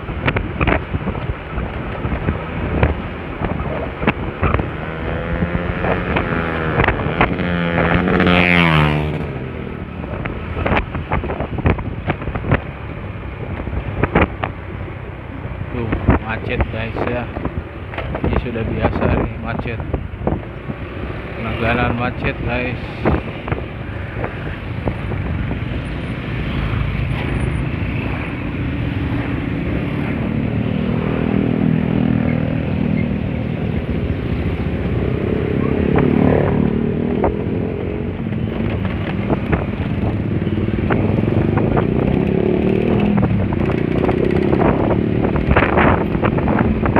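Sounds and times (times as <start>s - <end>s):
wind on microphone: 0.0s - 46.9s.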